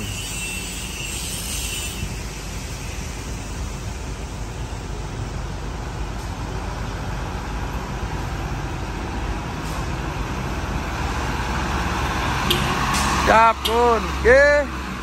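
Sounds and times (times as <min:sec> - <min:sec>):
truck engine idling: 0:02.0 - 0:15.0.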